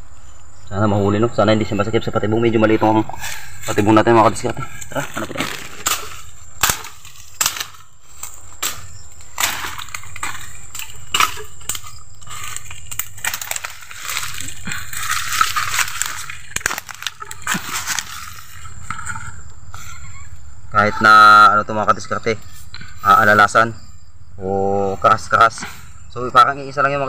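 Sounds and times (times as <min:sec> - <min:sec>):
twigs and leaves crackling: 0:00.0 - 0:23.8.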